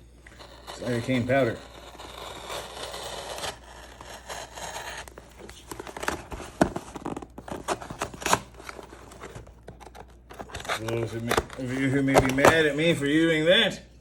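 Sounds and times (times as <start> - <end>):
knife cutting tape and cardboard: 0.2 - 12.9.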